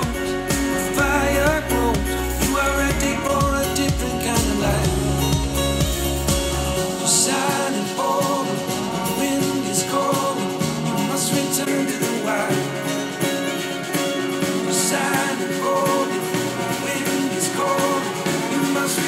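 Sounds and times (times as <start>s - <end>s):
pop-rock song over speakers: 0.0s - 19.0s.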